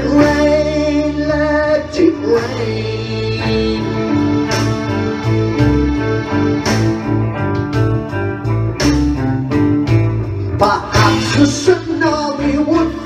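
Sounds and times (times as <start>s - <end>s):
electric guitar playing: 0.0s - 13.0s
repeating bass line: 0.0s - 13.0s.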